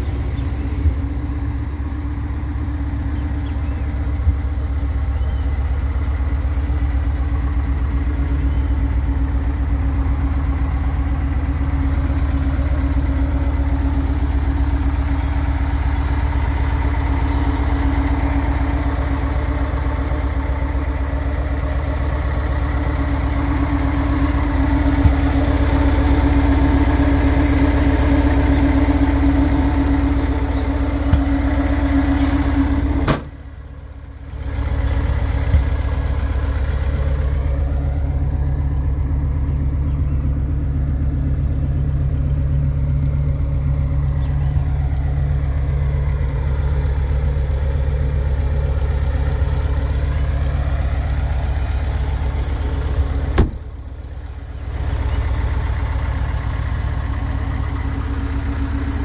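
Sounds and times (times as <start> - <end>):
van engine idling: 0.0 - 59.0.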